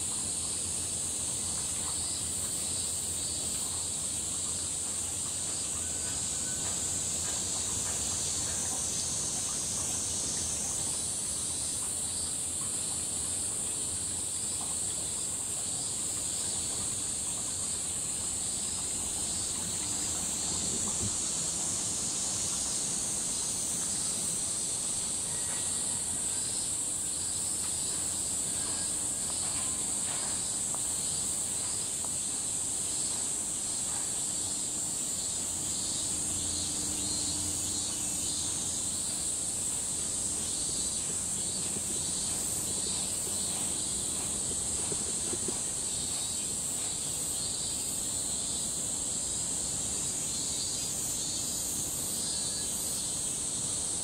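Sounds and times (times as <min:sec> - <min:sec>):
cicadas singing: 0:00.0 - 0:54.0
lower pulsing insect call: 0:00.0 - 0:54.0.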